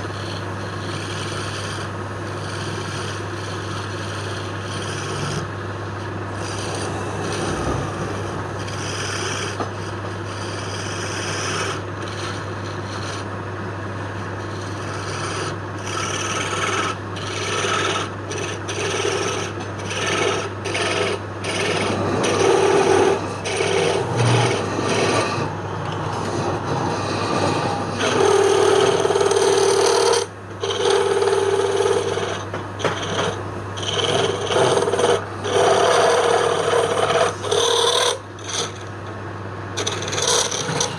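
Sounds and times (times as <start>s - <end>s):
tool scraping and cutting wood: 0.0s - 13.3s, 14.2s - 39.0s, 39.8s - 40.9s
low motor hum: 0.0s - 40.9s.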